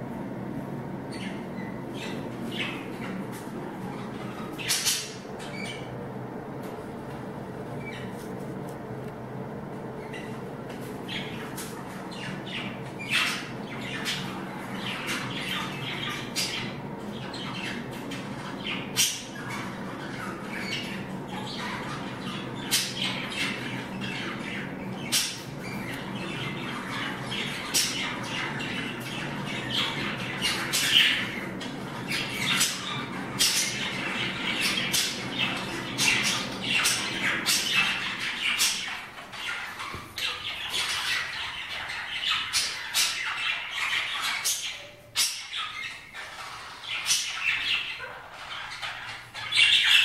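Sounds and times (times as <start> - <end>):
budgerigars chattering: 1.1 - 5.9, 11.0 - 50.0.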